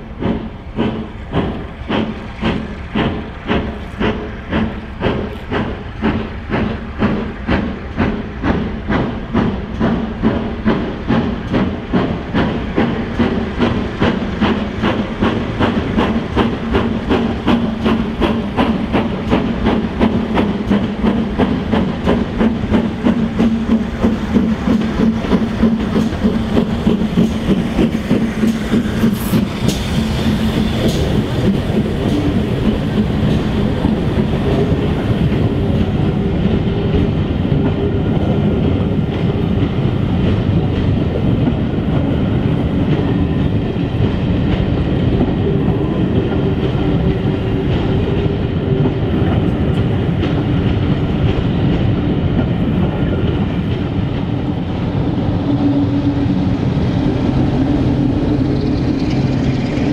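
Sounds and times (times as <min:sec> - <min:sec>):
steam locomotive exhaust beating: 0:00.0 - 0:59.9
coaches clattering over rail joints: 0:00.1 - 0:59.9.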